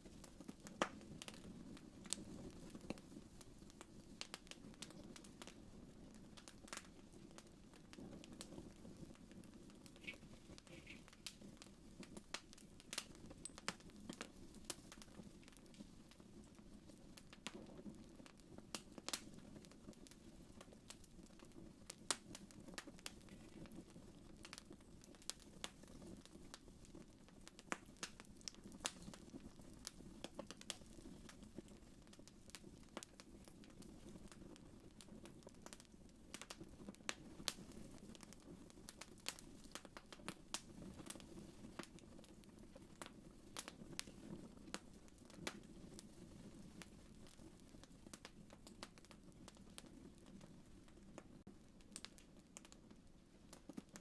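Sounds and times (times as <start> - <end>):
low rumble of burning fire: 0.0 - 54.0
wood fire crackling and popping: 0.0 - 54.0.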